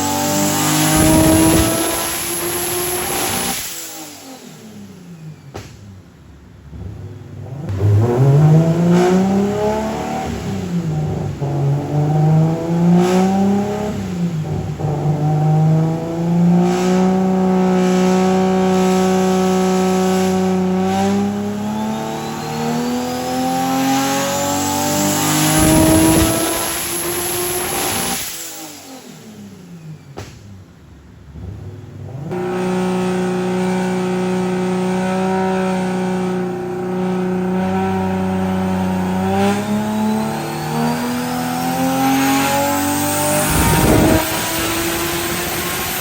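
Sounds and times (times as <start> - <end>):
high turbo whine: 0.0 - 30.2, 31.3 - 46.0
car engine revving on a dyno: 0.0 - 30.4, 31.2 - 46.0
engine spitting: 0.0 - 46.0.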